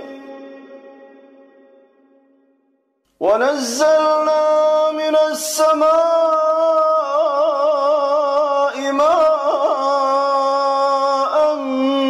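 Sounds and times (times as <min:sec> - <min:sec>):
man reciting melodically: 0:00.0 - 0:01.8, 0:03.1 - 0:12.0.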